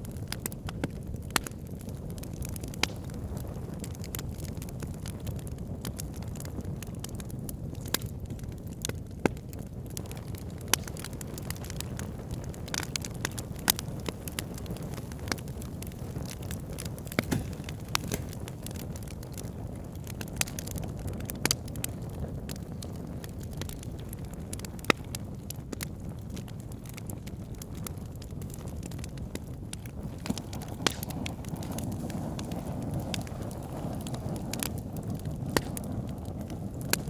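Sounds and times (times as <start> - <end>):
fire crackling: 0.0 - 37.0
flames rumbling: 0.0 - 37.0
wood fire popping: 0.0 - 37.0.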